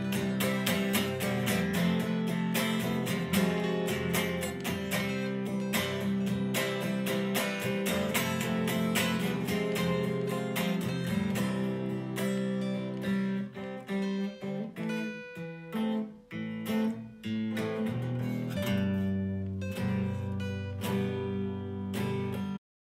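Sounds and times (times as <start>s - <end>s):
guitar strummed and plucked: 0.0s - 22.6s.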